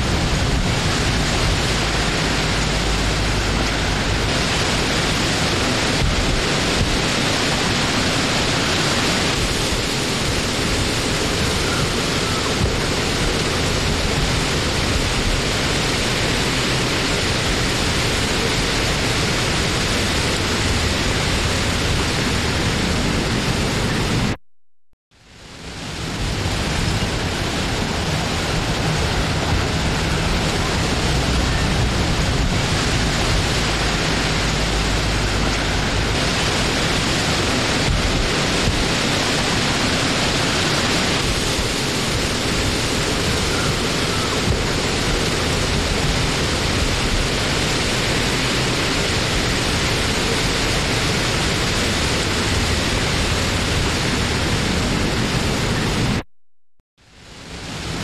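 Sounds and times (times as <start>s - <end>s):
wind blowing: 0.0s - 24.4s, 25.2s - 56.2s.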